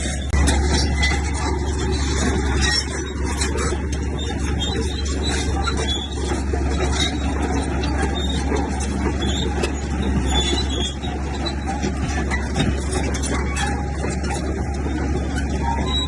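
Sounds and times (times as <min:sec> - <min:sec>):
heavy diesel engine rumbling: 0:00.0 - 0:16.0.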